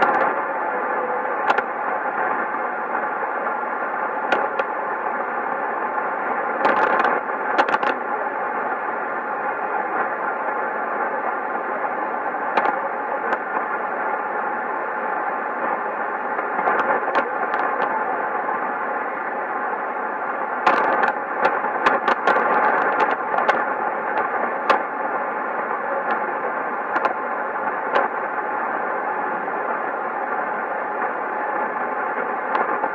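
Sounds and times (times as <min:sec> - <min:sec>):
radio hiss: 0:00.0 - 0:32.9
static crackles: 0:00.0 - 0:32.9
weak radio broadcast: 0:00.0 - 0:32.9.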